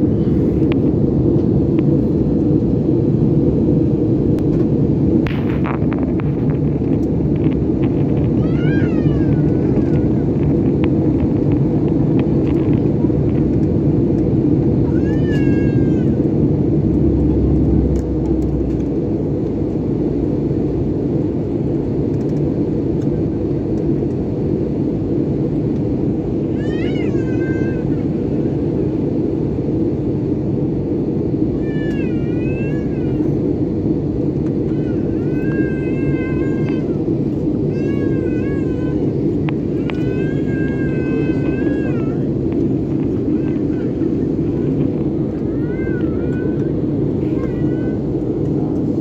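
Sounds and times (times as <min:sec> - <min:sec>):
airliner cabin rumble: 0:00.0 - 0:49.0.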